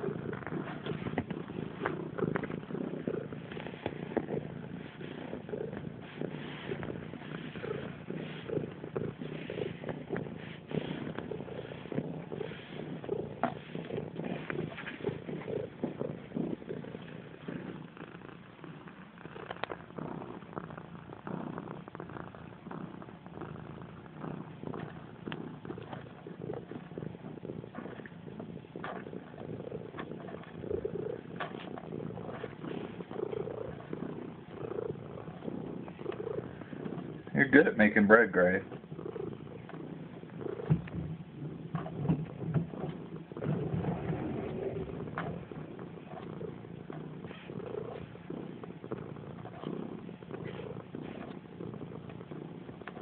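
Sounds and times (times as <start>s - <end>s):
cat purring: 0.0s - 53.0s
soft rustles and clicks: 0.0s - 53.0s.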